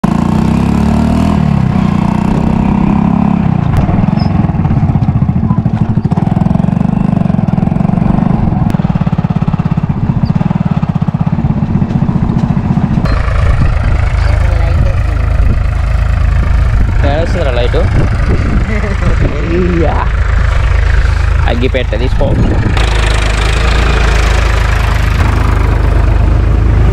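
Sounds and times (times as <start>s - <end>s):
tractor engine running: 1.3s - 26.9s.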